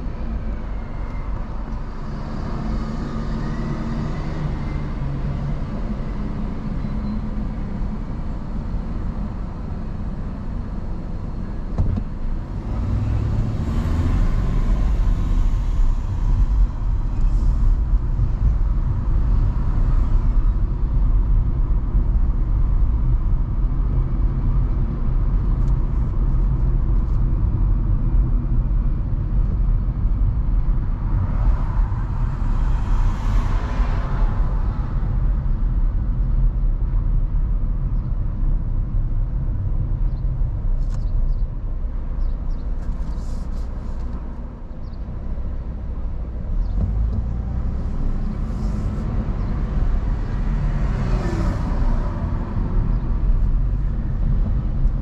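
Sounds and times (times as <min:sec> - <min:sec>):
road and engine rumble: 0:00.0 - 0:55.0.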